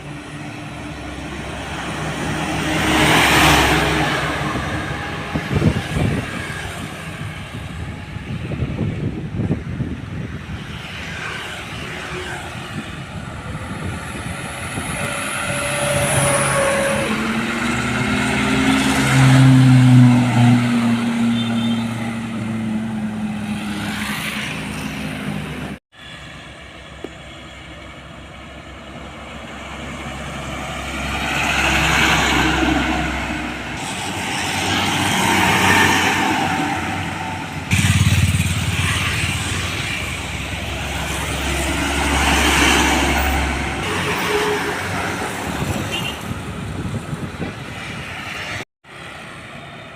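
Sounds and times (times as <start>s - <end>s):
diesel trucks driving past: 0.0s - 49.9s.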